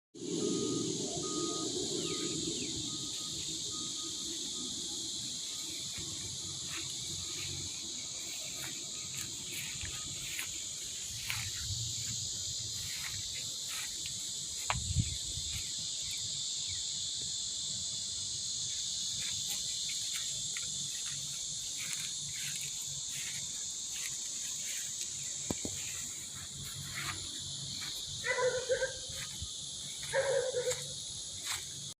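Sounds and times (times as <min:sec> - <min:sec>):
insects chirring: 0:00.2 - 0:32.0.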